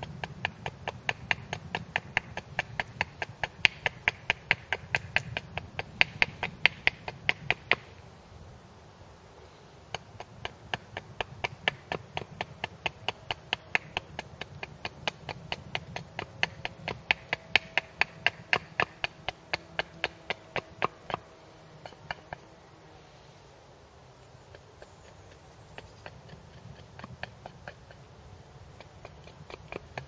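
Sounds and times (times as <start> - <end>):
hatchet chopping wood: 0.0 - 7.9, 9.9 - 22.5, 24.5 - 30.0
sharp wooden taps: 0.0 - 7.9, 9.9 - 22.4, 24.5 - 28.1, 28.7 - 30.0.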